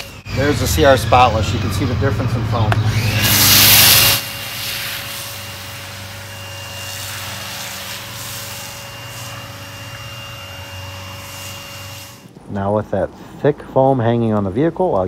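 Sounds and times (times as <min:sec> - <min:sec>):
machine hum with high whine: 0:00.0 - 0:12.4.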